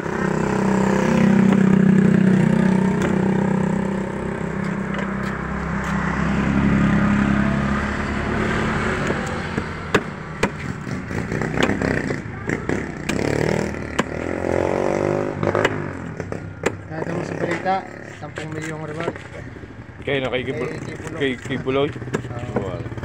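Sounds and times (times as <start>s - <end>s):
vehicles passing on street: 0.0s - 23.0s.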